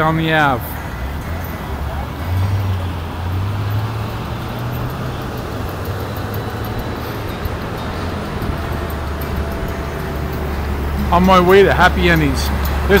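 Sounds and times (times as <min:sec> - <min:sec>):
steady traffic noise: 0:00.0 - 0:13.0
vehicle driving past: 0:00.0 - 0:13.0.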